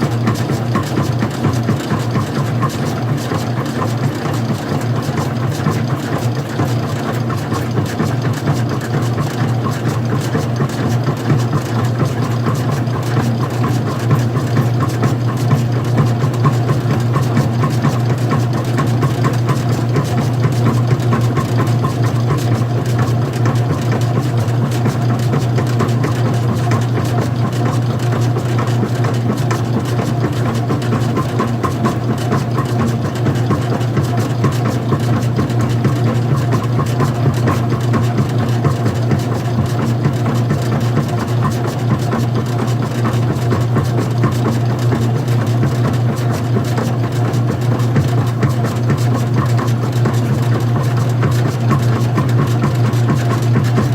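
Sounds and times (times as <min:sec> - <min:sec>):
washing machine motor humming: 0:00.0 - 0:53.9.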